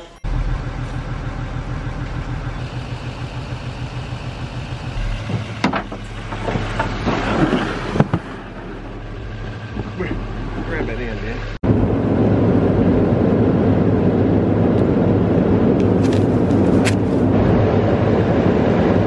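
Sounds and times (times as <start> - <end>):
motor vehicle engine running: 0.0 - 19.0.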